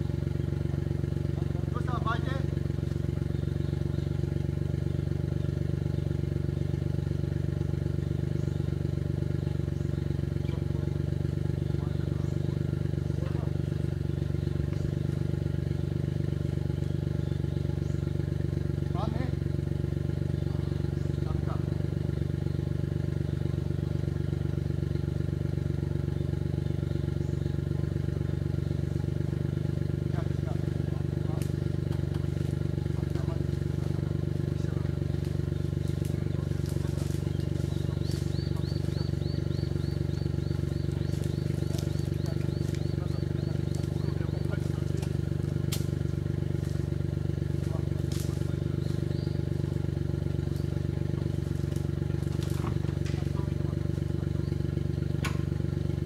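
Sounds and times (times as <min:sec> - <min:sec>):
small engine droning: 0:00.0 - 0:56.0.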